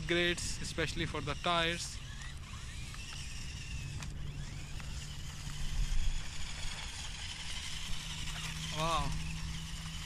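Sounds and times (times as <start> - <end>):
toy car electric motor whining: 0.0 - 10.0.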